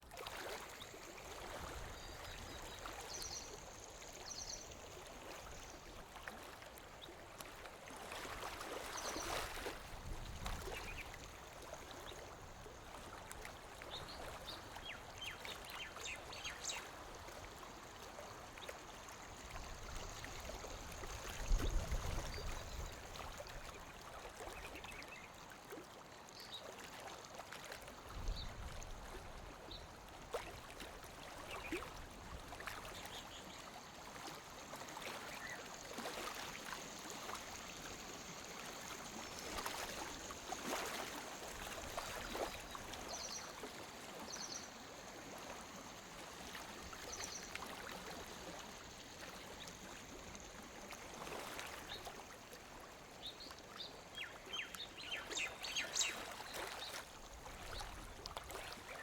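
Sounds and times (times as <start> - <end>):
lake water lapping: 0.0 - 59.0.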